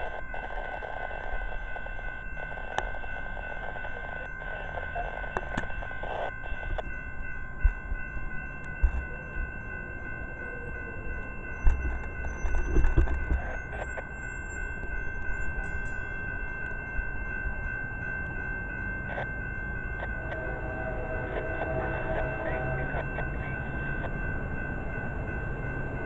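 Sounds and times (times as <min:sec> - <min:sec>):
railroad crossing bells ringing: 0:00.0 - 0:26.0.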